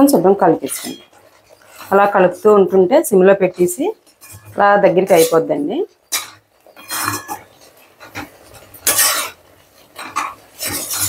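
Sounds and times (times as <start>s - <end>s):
metal spatula scraping pan: 0.1s - 11.0s.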